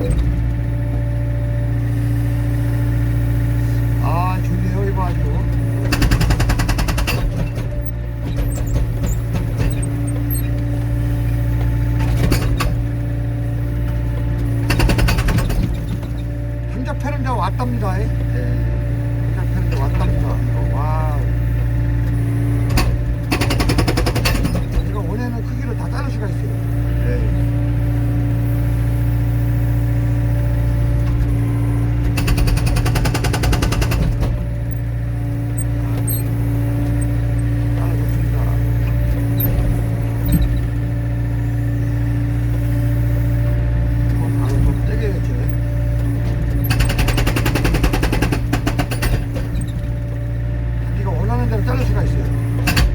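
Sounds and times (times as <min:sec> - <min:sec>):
diesel engine running: 0:00.0 - 0:52.9
hydraulic breaker hammering: 0:04.0 - 0:17.0, 0:17.6 - 0:29.0, 0:29.6 - 0:52.9.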